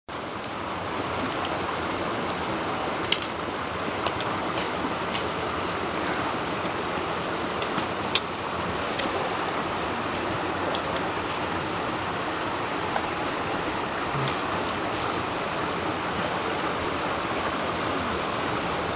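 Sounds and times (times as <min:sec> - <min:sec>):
water flowing under ice: 0:00.2 - 0:18.9.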